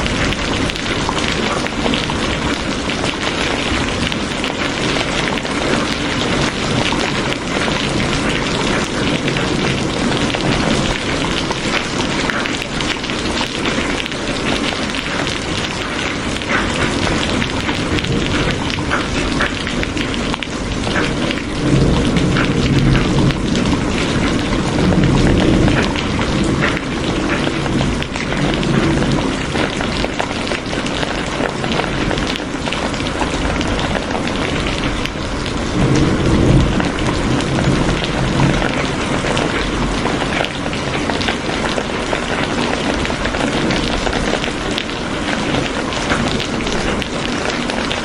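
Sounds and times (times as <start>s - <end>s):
heavy rain: 0.0s - 48.0s
low rumble of thunder: 0.0s - 48.0s.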